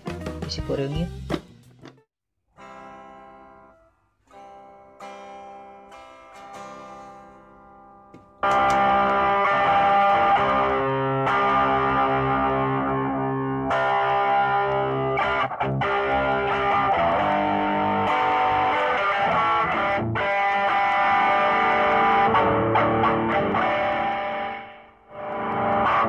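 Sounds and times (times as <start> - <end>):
distorted electric guitar chords: 2.6 - 26.0.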